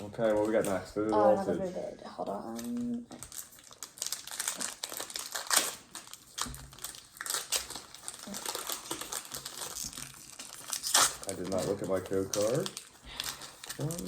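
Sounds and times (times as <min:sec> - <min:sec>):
foil wrapper tearing and crinkling: 0:00.0 - 0:01.1, 0:02.5 - 0:14.0.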